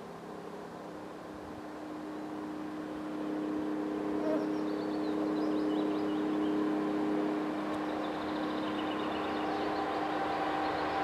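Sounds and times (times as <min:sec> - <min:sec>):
train engine drone: 0:00.0 - 0:11.0.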